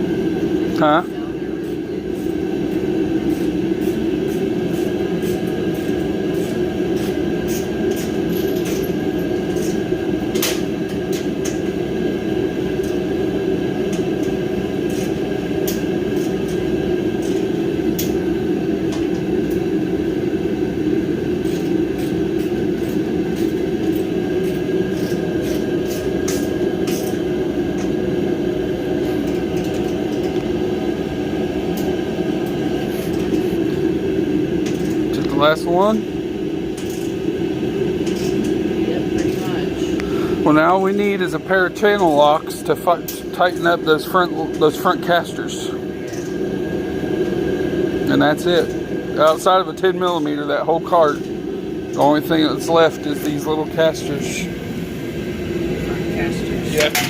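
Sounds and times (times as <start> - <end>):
machine humming: 0.0 - 57.0.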